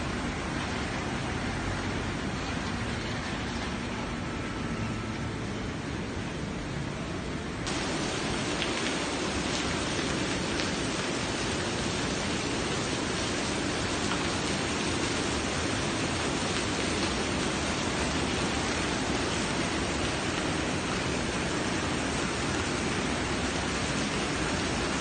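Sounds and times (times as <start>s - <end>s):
water splashing in a fountain: 0.0s - 25.0s.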